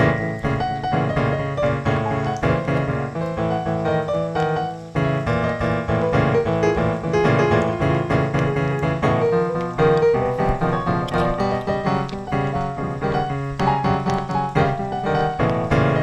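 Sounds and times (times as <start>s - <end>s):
piano music with repeated chords: 0.0s - 16.0s.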